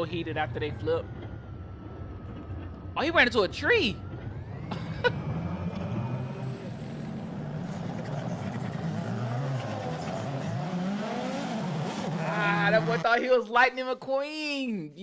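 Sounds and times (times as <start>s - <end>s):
rally car engine revving: 0.0s - 13.2s.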